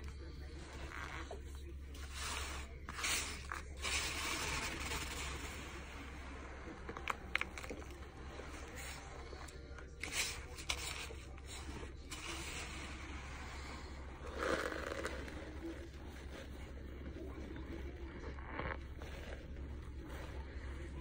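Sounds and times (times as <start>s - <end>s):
powdery scraping in hands: 0.0s - 21.0s
chalky chunks crunching: 2.8s - 21.0s.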